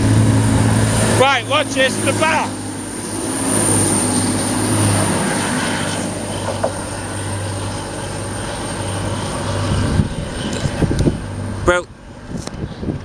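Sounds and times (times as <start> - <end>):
diesel train engines rumbling: 0.0 - 13.0.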